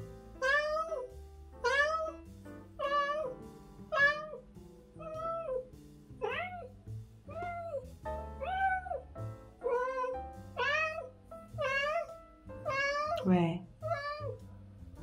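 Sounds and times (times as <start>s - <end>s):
cat meowing: 0.4s - 4.4s, 5.0s - 14.4s.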